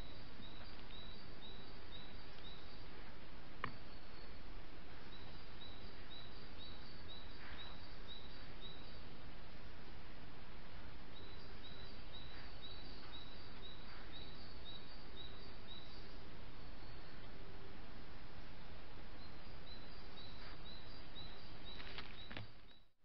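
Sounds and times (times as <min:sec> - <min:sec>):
microphone hiss: 0:00.0 - 0:22.9.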